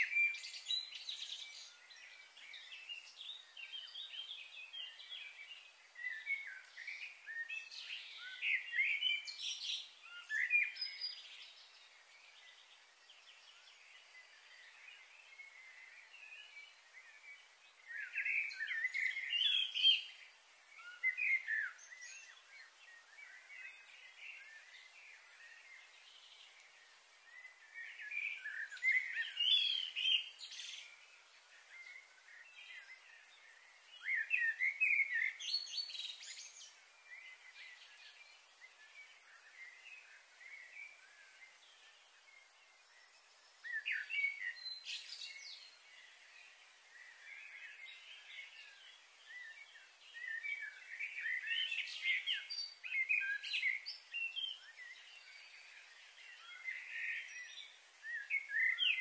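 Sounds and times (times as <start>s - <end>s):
faint high hiss: 0.0s - 59.0s
small birds chirping: 0.0s - 59.0s.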